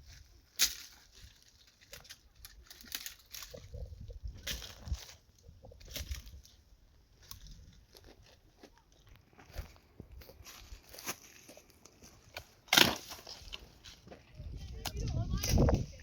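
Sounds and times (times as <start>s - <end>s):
dry twigs crunching and snapping: 0.1s - 6.6s, 7.2s - 14.1s.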